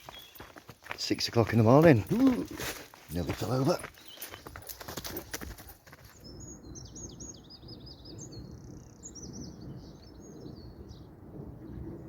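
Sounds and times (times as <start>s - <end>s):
songbird singing: 0.0s - 5.3s, 6.0s - 12.0s.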